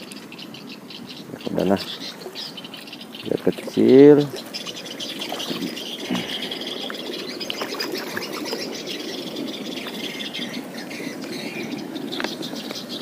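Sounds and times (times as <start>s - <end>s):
birds chirping and twittering: 0.0s - 13.0s
running water rushing: 0.0s - 13.0s.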